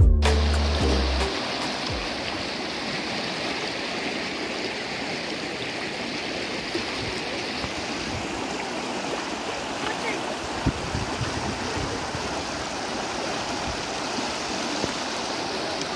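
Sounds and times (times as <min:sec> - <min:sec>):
river water rippling over stones: 0:00.6 - 0:15.9.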